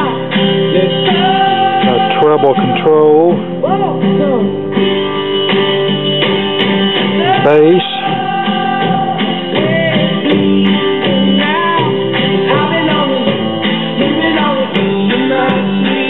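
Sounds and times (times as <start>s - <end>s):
radio music with guitar and singing: 0.0s - 16.0s.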